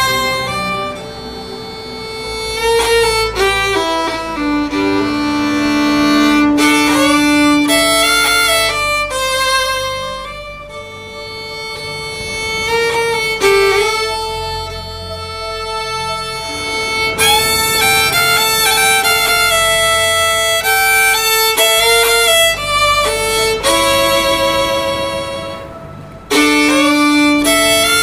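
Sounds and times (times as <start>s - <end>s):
fiddle playing folk melody: 0.0s - 28.0s.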